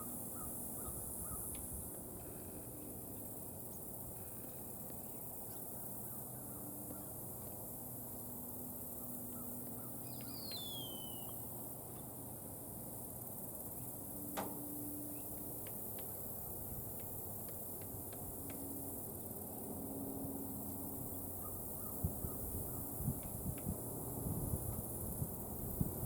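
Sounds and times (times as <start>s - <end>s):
outdoor background hum: 0.0s - 26.0s.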